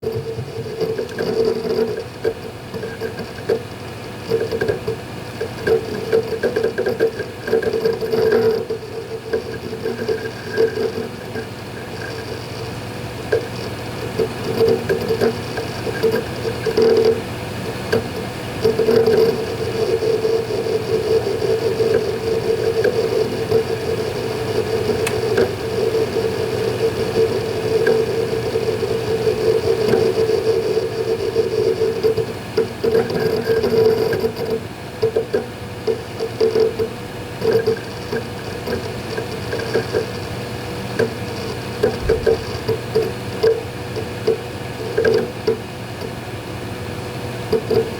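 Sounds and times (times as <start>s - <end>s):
hard drive hum: 0.0s - 47.9s
hard drive seek chatter: 0.0s - 47.9s.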